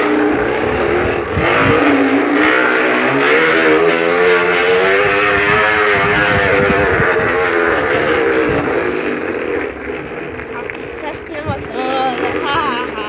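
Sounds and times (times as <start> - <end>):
bicycle noisemaker buzzing: 0.0 - 13.0.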